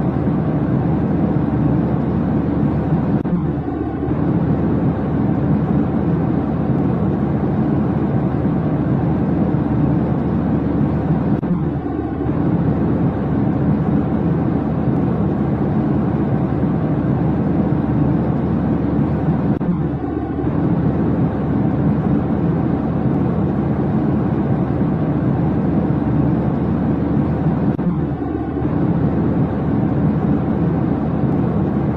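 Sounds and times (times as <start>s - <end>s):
steady low rumble: 0.0s - 31.9s.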